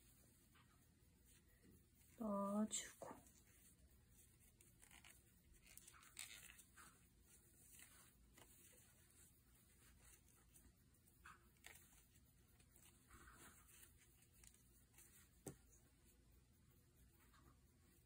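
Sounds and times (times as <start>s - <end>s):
fabric cord rustling: 0.0s - 16.2s.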